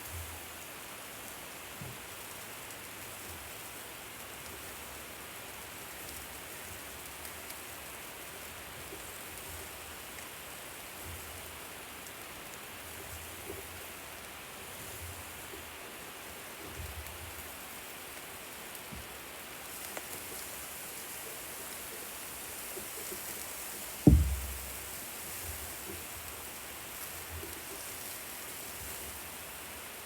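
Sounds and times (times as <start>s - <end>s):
food sizzling on a grill: 0.0s - 24.4s, 25.2s - 30.0s.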